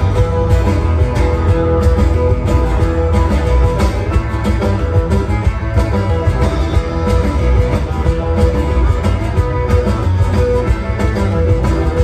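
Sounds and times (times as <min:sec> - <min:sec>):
electric guitar: 0:00.0 - 0:12.0
electronic drum kit beat: 0:00.0 - 0:12.0.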